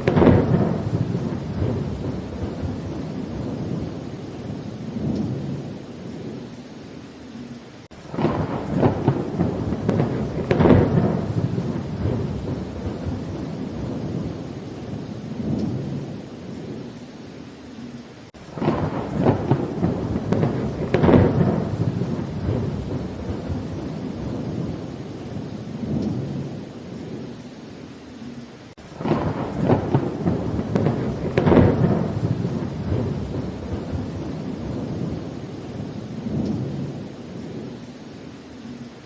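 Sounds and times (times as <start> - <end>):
thunder rolling: 0.0 - 6.4, 8.0 - 16.9, 18.4 - 27.3, 28.8 - 37.7
steady rain: 0.0 - 39.0.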